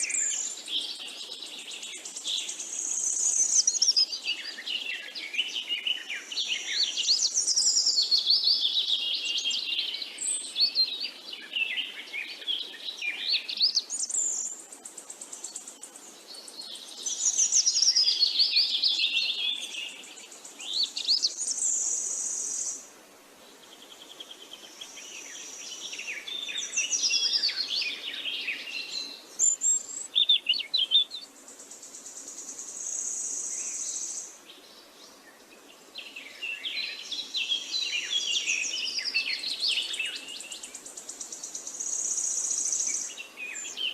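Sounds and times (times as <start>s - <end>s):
birds singing: 0.0s - 43.9s.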